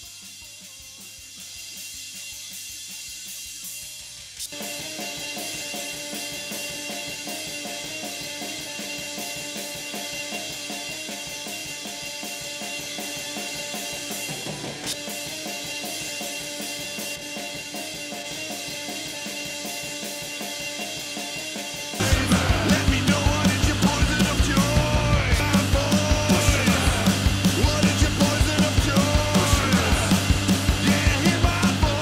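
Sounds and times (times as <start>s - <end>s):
rock drum kit beat: 0.0s - 32.0s.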